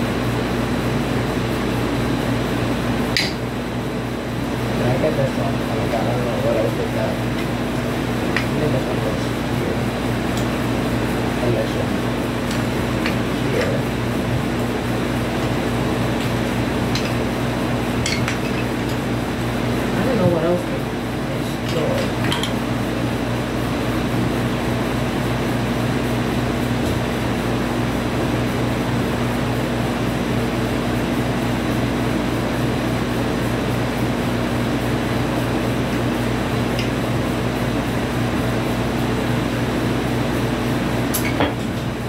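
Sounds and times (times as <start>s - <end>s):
air conditioner humming: 0.0s - 42.0s.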